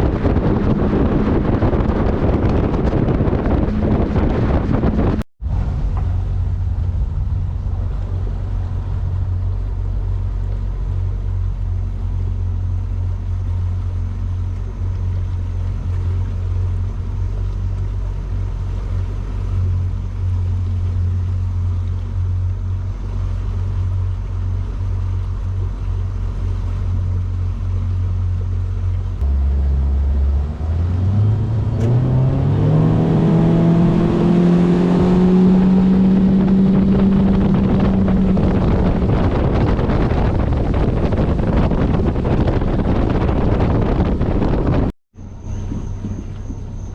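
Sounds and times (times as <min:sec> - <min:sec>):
motorboat engine running: 0:00.0 - 0:46.9.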